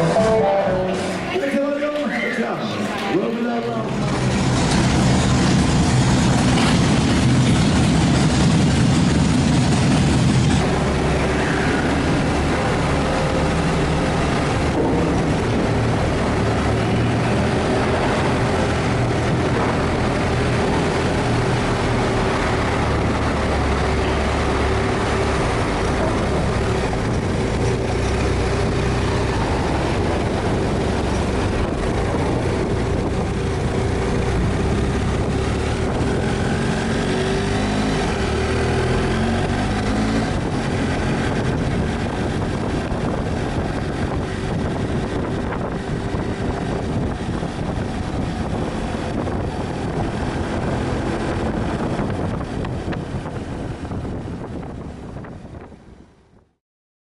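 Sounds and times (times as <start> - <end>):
vehicle engine droning: 0.0 - 55.9
rushing travel noise: 0.0 - 56.6.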